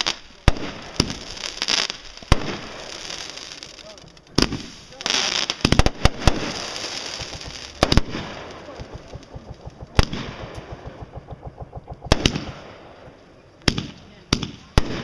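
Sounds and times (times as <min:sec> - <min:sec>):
fireworks crackling pops: 0:00.0 - 0:15.0
fireworks loud reports: 0:00.0 - 0:15.0.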